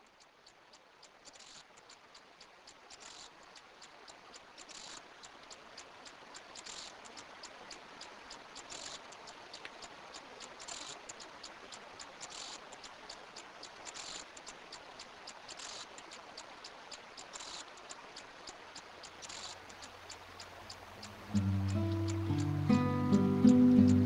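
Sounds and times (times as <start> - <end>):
high-pitched ticks and clicks: 0.0 - 24.0
soft hiss: 0.0 - 24.0.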